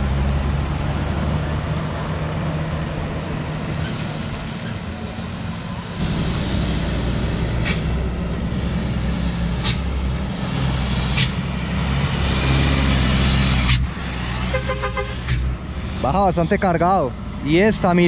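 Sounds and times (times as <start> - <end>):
truck diesel engine passing: 0.0 - 18.0.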